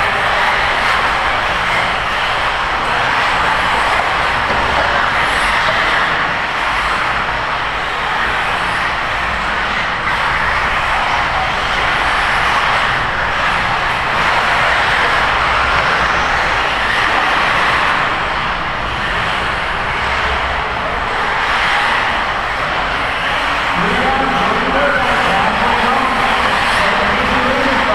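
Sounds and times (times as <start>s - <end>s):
small motors of racing toy cars buzzing: 0.0s - 27.9s.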